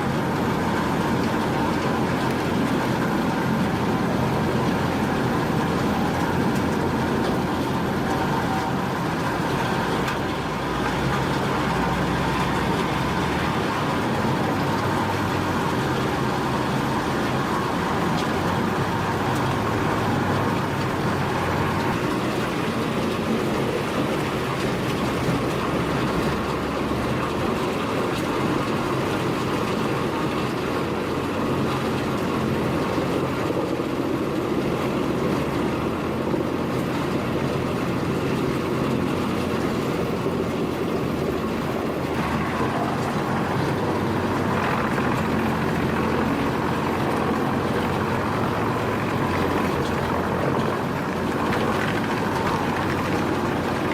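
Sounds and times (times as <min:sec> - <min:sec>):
industrial wood shredder running: 0:00.0 - 0:53.9.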